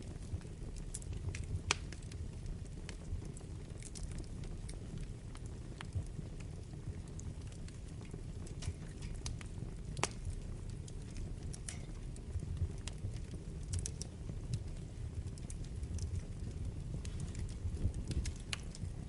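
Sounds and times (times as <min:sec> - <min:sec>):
burning logs crackling and popping: 0:00.0 - 0:19.0
fire flames rumbling: 0:00.0 - 0:19.0.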